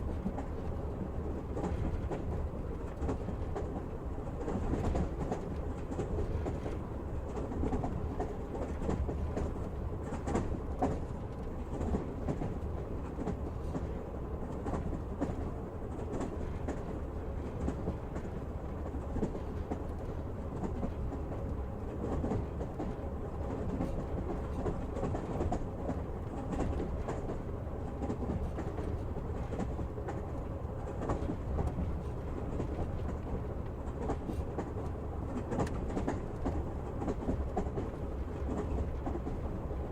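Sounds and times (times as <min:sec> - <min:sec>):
train clacks and knocks: 0:00.0 - 0:39.9
train wheels rumbling on rails: 0:00.0 - 0:39.9.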